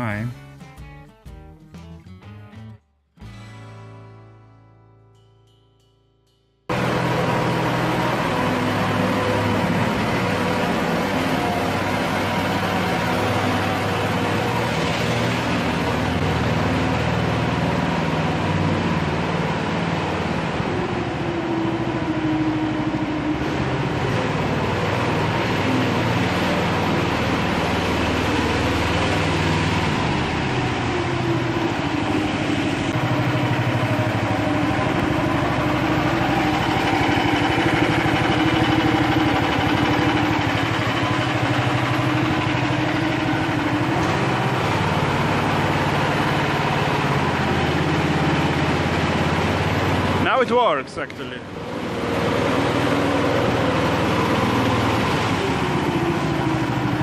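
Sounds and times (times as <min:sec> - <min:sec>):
small kart engine running: 0:06.7 - 0:57.0.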